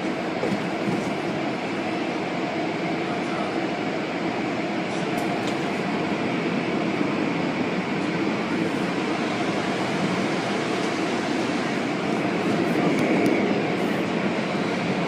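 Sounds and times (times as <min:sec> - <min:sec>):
car wash machinery drone: 0:00.0 - 0:15.0.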